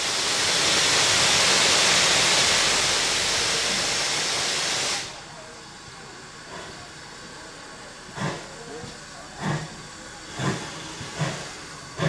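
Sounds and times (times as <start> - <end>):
steam locomotive hissing steam: 0.0 - 12.0.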